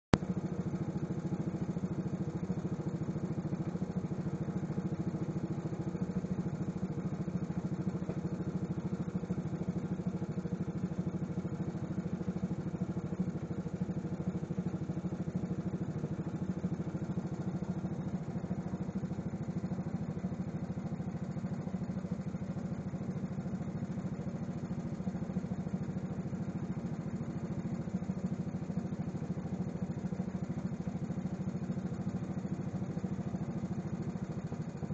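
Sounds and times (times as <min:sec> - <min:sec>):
walking tractor engine running: 0:00.1 - 0:34.9.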